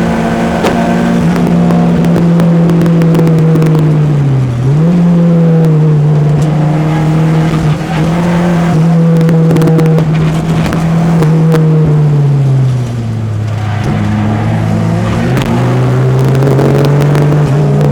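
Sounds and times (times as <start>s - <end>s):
car engine revving high: 0.0s - 17.9s.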